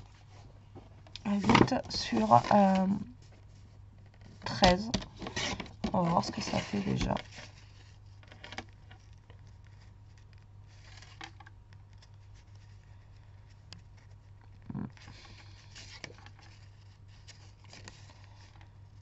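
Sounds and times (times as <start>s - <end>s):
paper rustles: 1.2s - 19.0s.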